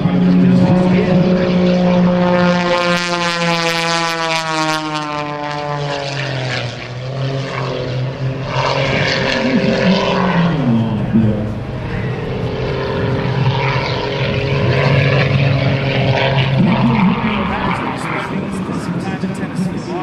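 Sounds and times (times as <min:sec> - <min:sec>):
propeller plane engine drone: 0:00.0 - 0:20.0.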